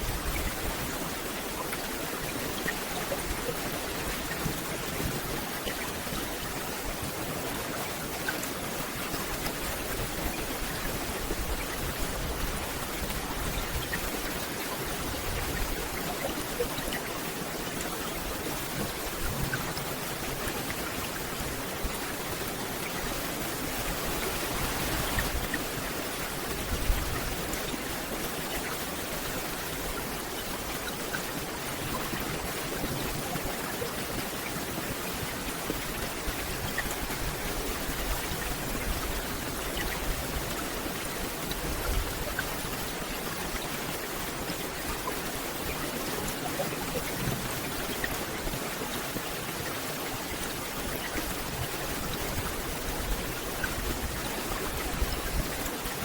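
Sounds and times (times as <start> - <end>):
rain falling through trees: 0.0 - 56.0.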